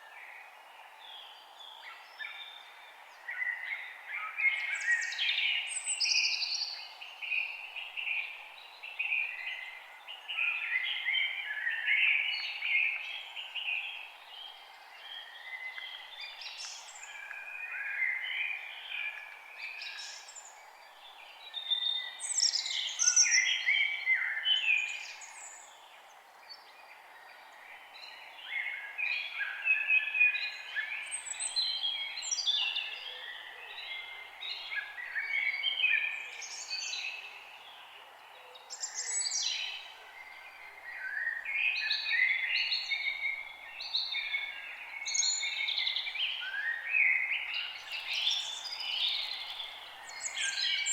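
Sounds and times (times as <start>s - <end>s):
songbirds singing and chirping: 0.0s - 50.9s.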